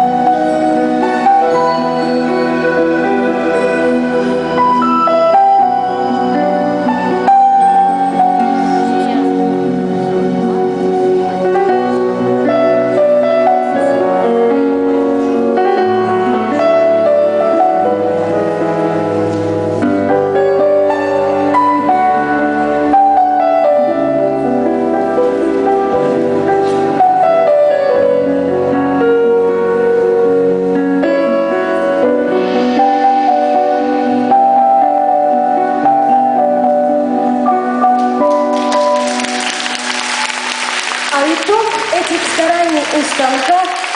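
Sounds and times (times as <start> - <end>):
piano background music: 0.0 - 43.9.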